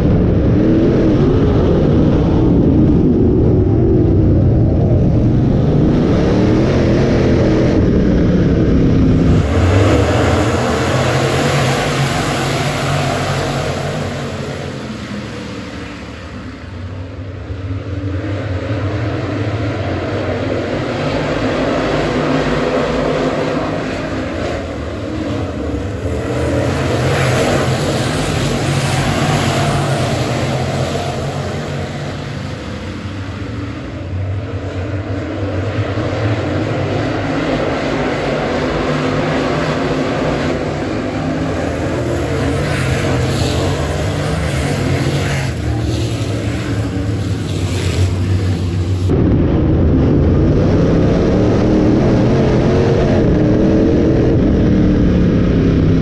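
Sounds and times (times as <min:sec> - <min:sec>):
race car engine from cockpit: 0:00.0 - 0:56.0
race cars racing around track: 0:00.0 - 0:56.0.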